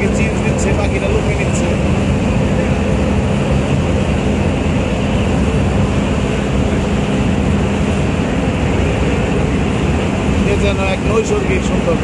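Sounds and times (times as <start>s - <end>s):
boat engine drone: 0.0s - 12.0s
rushing wind: 0.0s - 12.0s
water noise: 0.0s - 12.0s.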